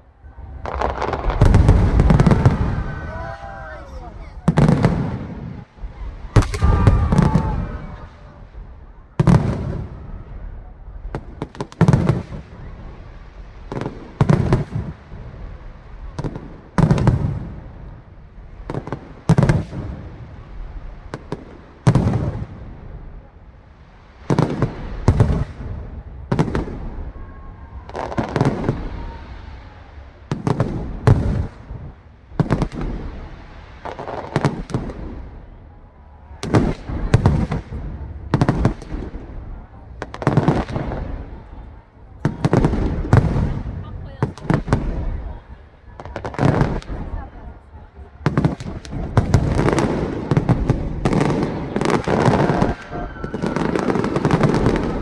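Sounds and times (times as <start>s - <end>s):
rumbling crackling decay: 0.0s - 18.8s, 24.6s - 55.0s
aerial fireworks booming: 0.2s - 23.1s, 24.2s - 55.0s.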